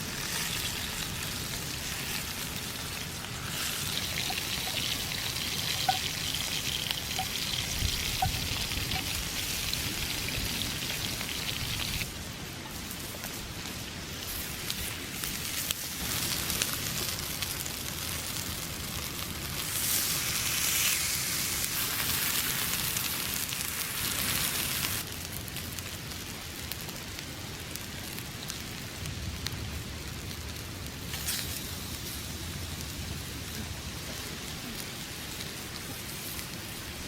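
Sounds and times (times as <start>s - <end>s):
fire crackling: 0.0s - 37.0s
food sizzling on a grill: 0.0s - 37.0s.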